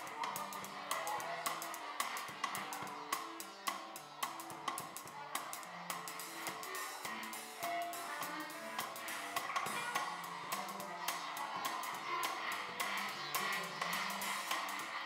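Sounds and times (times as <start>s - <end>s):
drum kit playing: 0.0s - 15.0s.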